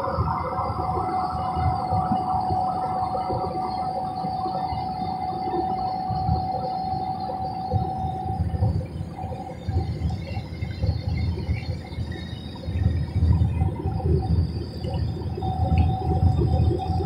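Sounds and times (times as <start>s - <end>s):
steady high hum: 0.0s - 17.0s.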